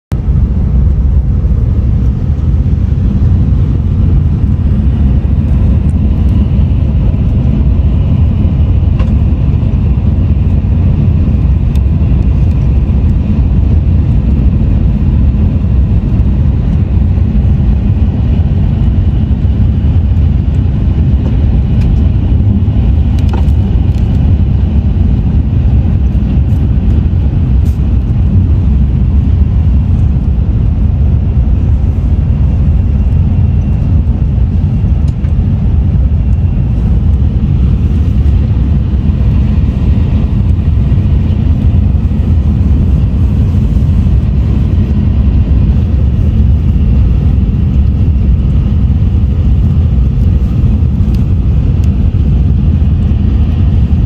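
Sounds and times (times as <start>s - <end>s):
train cabin low rumble: 0.1s - 54.0s.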